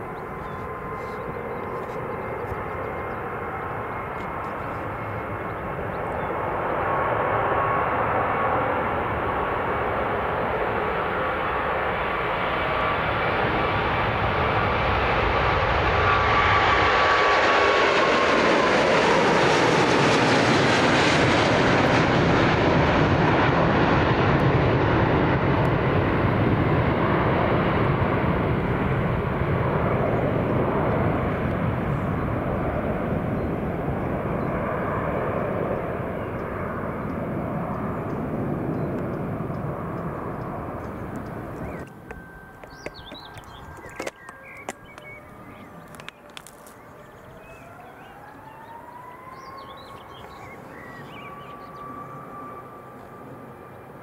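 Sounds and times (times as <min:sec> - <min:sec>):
jet engines passing close: 0:00.0 - 0:54.0.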